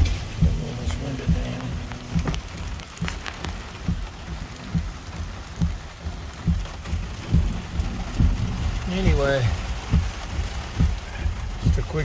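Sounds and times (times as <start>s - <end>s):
low thud: 0.0s - 11.8s
heavy rain beating on a car: 0.0s - 12.0s.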